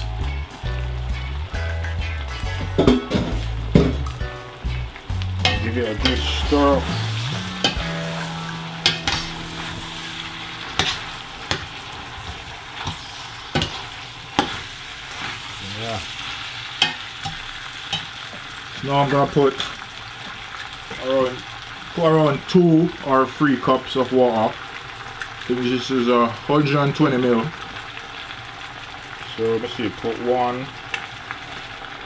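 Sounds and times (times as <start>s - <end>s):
vegetables sizzling in hot oil: 0.0s - 32.0s.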